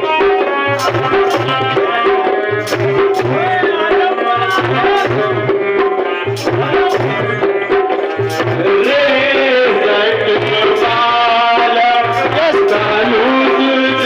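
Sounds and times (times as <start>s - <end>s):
hand drums rhythm: 0.0s - 14.0s.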